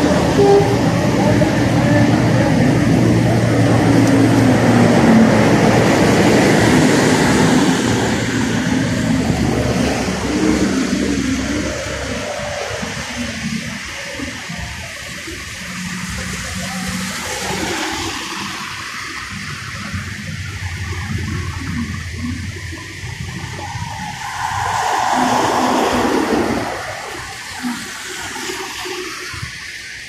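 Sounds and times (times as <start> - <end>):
low engine rumble: 0.0 - 28.8
car tyres swishing through water: 0.0 - 30.0
hiss of wet tyres and water: 0.0 - 30.0.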